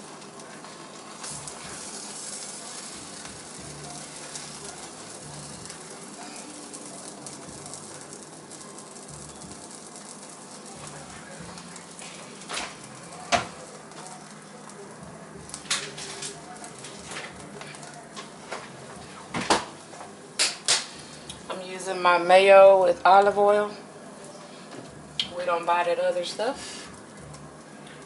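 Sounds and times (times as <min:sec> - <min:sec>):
buns sizzling in a skillet: 0:00.0 - 0:28.0.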